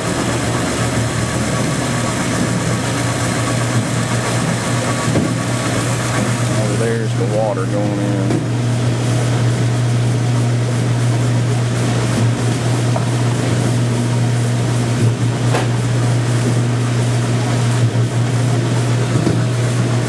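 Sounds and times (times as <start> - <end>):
loud steady motor hum: 0.0 - 20.0.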